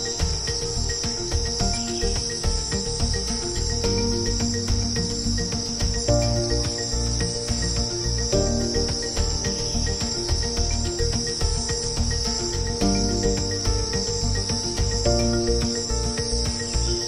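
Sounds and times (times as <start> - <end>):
ambient music with held chords: 0.0 - 17.0
high-pitched chirring: 0.0 - 17.0.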